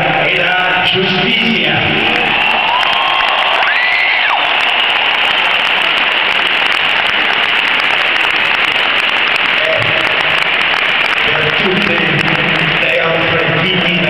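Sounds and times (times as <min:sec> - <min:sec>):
crowd applauding and cheering: 0:01.6 - 0:14.0.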